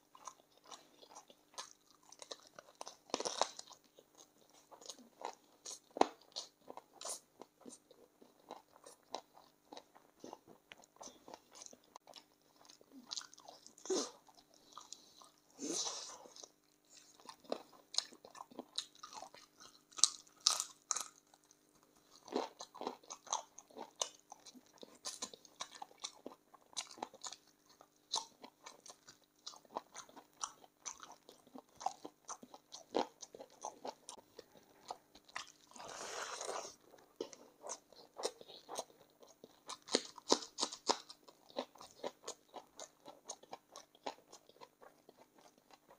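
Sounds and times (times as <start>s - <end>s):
person chewing and crunching: 0.0s - 45.9s.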